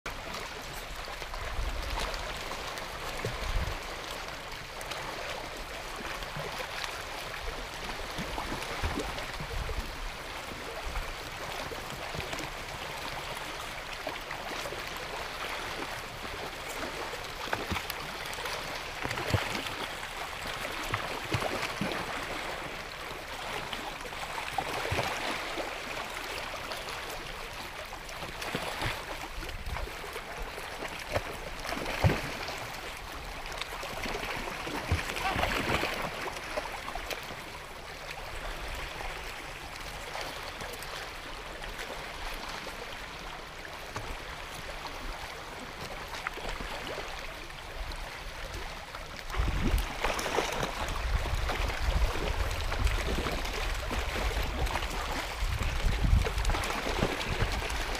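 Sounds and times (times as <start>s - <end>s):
seawater lapping among rocks: 0.1s - 57.9s.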